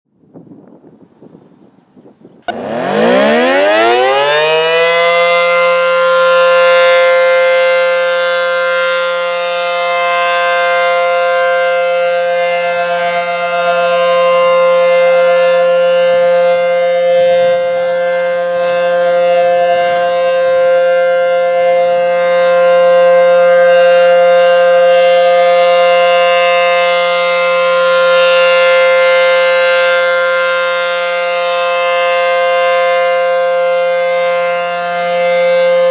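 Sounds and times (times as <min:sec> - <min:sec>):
warning siren winding up: 0:02.4 - 0:35.9.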